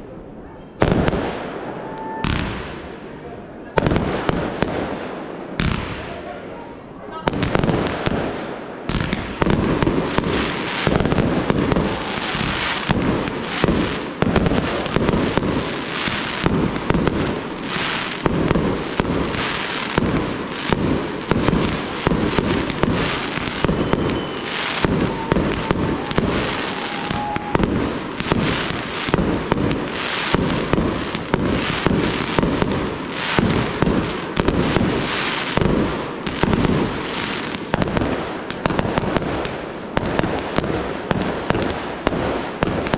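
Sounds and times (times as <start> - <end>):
fireworks bursting: 0.6 - 42.9.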